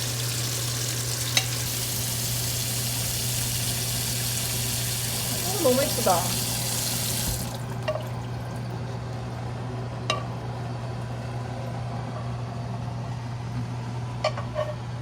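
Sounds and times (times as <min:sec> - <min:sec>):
kitchen appliance humming: 0:00.0 - 0:14.1.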